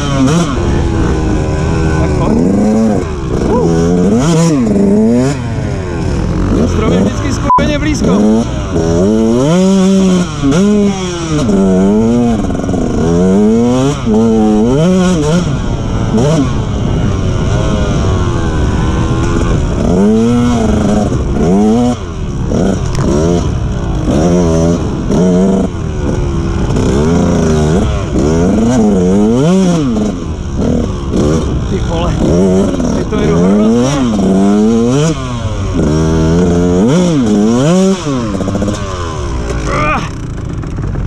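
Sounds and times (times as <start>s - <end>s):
motorbike engine revving: 0.0s - 41.0s.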